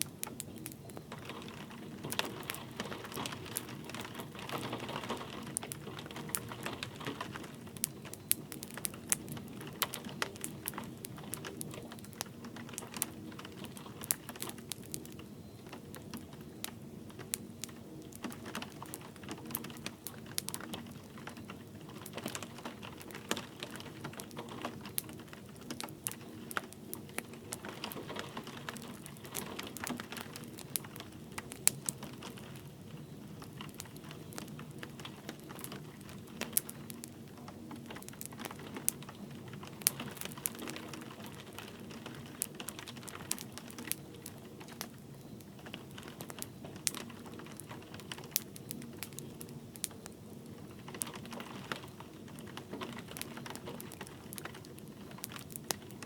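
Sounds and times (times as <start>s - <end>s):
light rain: 0.0s - 56.0s
wood fire crackling and popping: 0.0s - 56.0s.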